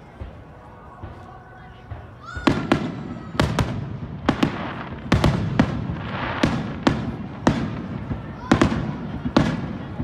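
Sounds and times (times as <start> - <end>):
firework crackling: 0.0 - 10.0.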